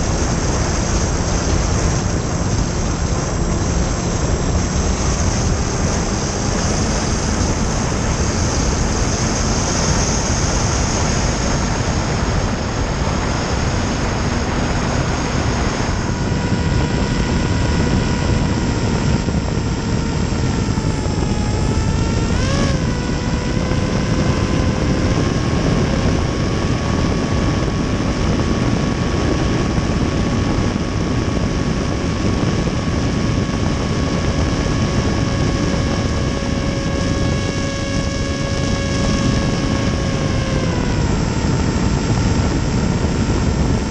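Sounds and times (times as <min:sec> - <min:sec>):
electric motor and propeller whining: 0:00.0 - 0:43.9
wind rushing: 0:00.0 - 0:43.9.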